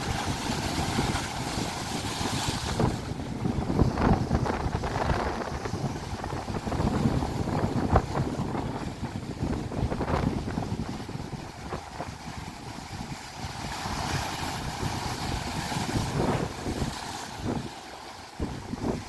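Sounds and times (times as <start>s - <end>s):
waves breaking on rocky shore: 0.0s - 19.0s
wind buffeting microphone: 0.0s - 19.0s.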